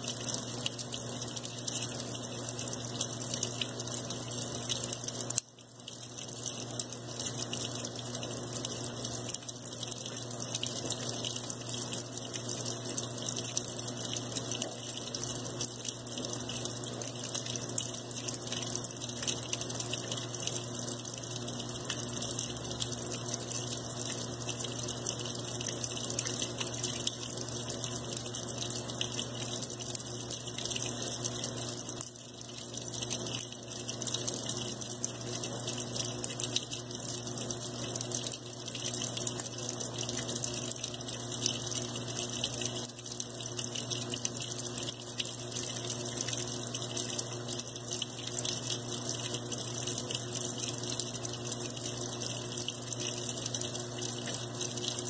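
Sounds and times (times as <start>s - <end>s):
water pouring into washing machine: 0.0s - 55.0s.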